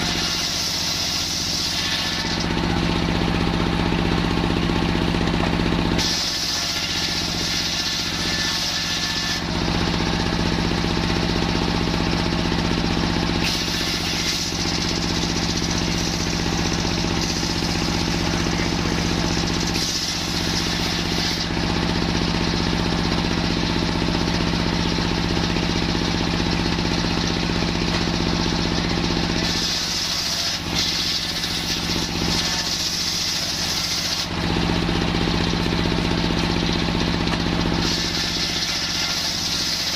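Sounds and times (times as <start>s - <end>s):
circular saw blade ripping timber: 0.0s - 3.5s, 5.0s - 10.8s, 13.3s - 24.5s, 27.8s - 39.9s
sawmill engine humming: 0.0s - 39.9s.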